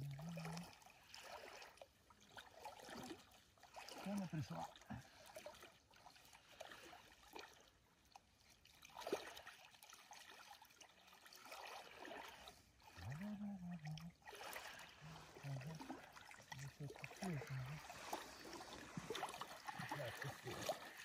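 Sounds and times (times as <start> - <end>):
water sloshing and trickling: 0.0 - 21.0.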